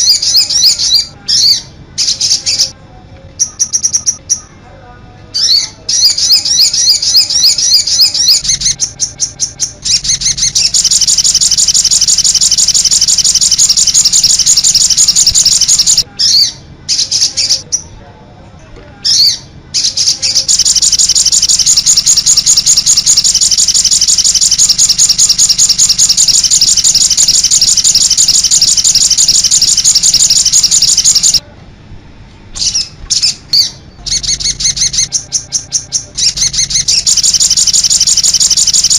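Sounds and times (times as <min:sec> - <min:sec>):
songbird trills and chattering: 0:00.0 - 0:02.8, 0:03.4 - 0:04.5, 0:05.4 - 0:17.9, 0:19.1 - 0:31.4, 0:32.6 - 0:38.9.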